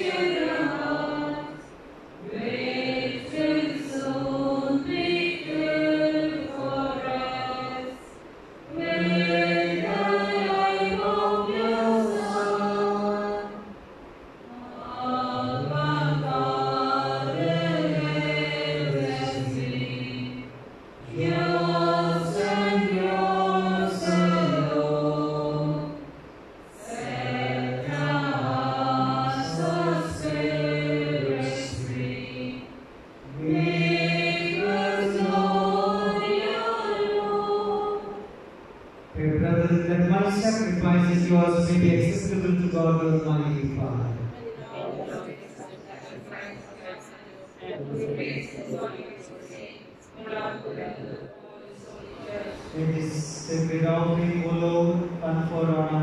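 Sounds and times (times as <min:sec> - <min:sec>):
group singing a hymn: 0:00.0 - 0:56.0.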